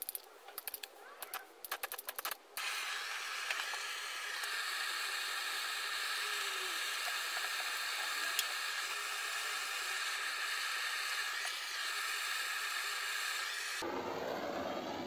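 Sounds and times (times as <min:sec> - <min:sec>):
blowtorch flame hissing: 0:02.6 - 0:15.0.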